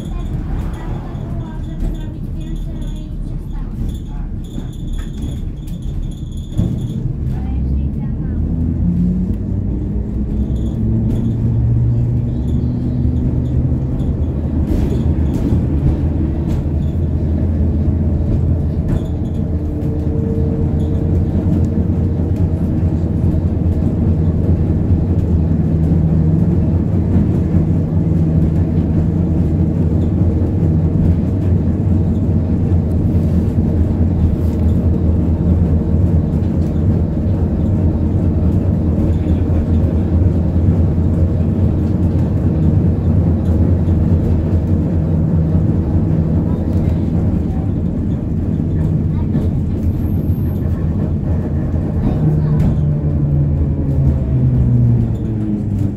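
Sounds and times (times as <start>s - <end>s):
tram wheels rumbling on rails: 0.0s - 55.9s.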